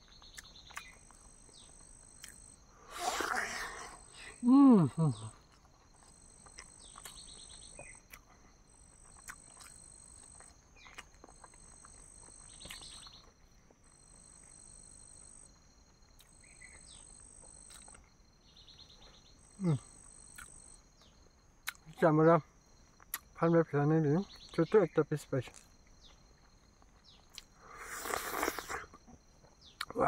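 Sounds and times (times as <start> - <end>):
high insect trill: 0.0 - 30.0.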